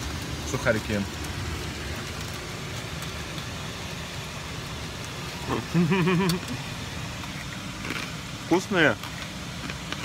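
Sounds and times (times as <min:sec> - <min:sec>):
engine and road rumble: 0:00.0 - 0:10.0.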